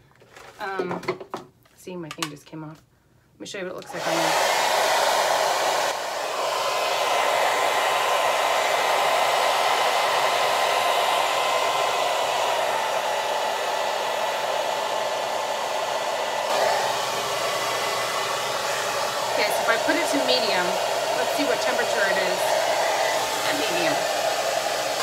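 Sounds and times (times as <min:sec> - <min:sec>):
hair dryer blowing air: 0:03.8 - 0:25.0.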